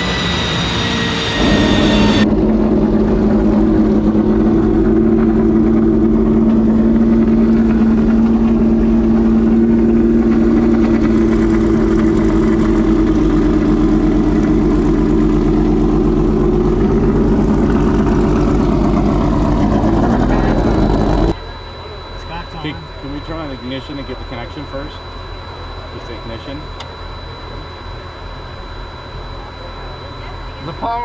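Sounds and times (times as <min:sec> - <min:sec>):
race car engine idling: 0:01.3 - 0:31.0.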